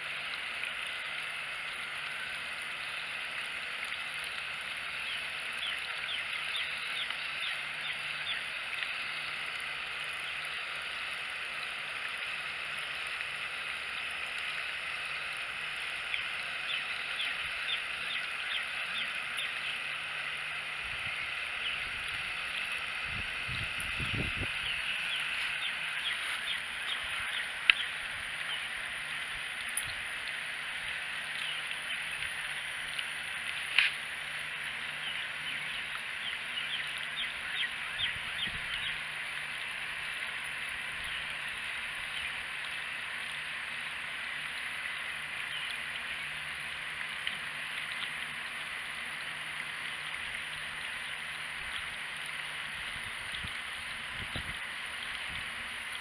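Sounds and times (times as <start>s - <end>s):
hose water running into plastic can: 0.0s - 56.0s.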